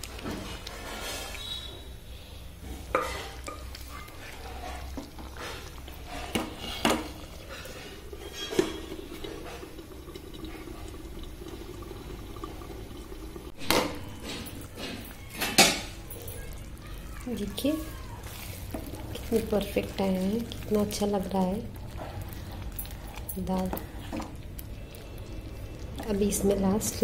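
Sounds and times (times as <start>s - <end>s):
thick stew bubbling: 0.0s - 27.0s.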